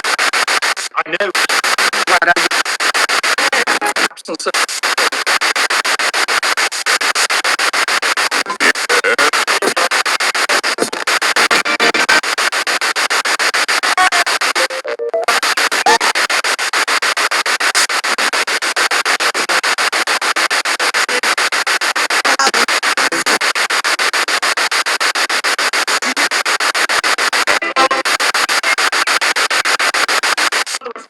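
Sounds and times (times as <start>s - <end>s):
pulsing radio static: 0.0s - 31.0s
snatches of radio sound: 0.0s - 31.0s.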